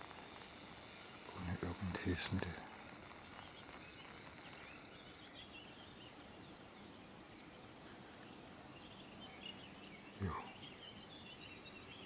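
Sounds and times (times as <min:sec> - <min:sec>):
steady high hiss: 0:00.0 - 0:11.9
distant bird chirps: 0:00.0 - 0:12.0
outdoor background hiss: 0:00.0 - 0:12.0.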